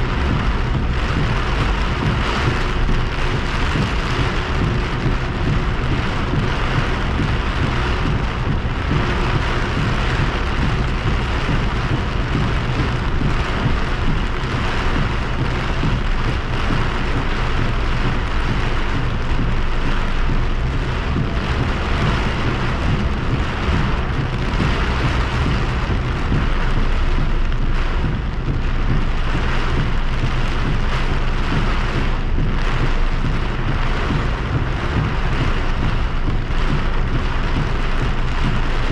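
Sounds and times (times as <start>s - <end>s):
heavy rain on a car: 0.0s - 38.9s
steady low rumble: 0.0s - 38.9s.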